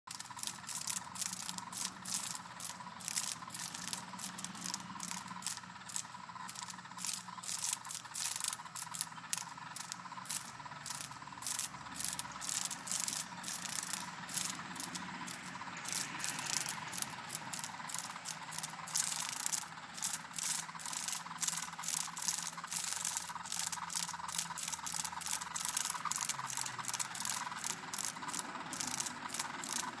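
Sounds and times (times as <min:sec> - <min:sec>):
cicada buzzing: 0:00.1 - 0:30.0.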